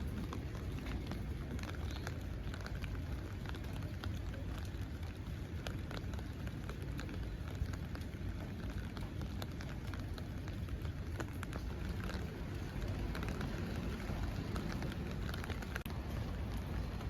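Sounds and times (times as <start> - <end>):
raindrops ticking close by: 0.0 - 17.0
steady rainfall: 0.0 - 17.0.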